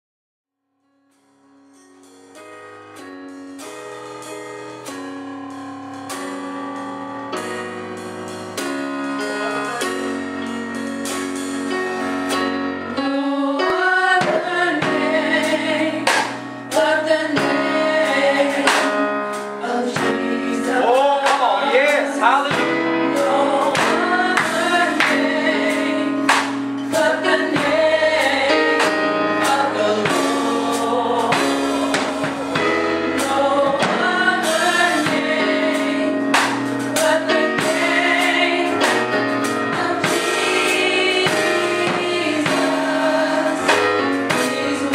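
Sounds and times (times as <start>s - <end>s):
instrumental accompaniment: 0.8s - 44.9s
voices singing gospel: 6.0s - 44.9s.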